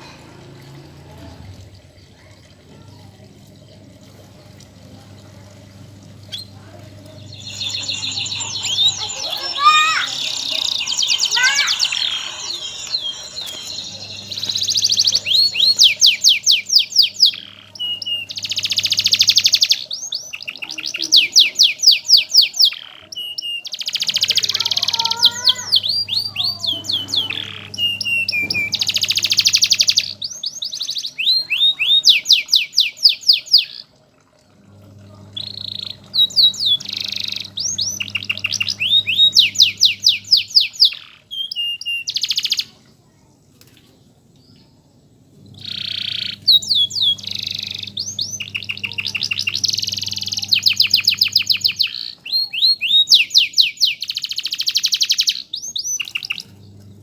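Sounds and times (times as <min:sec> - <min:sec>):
canary singing trills and chirps: 0:06.1 - 0:33.9, 0:35.1 - 0:42.8, 0:45.5 - 0:57.0.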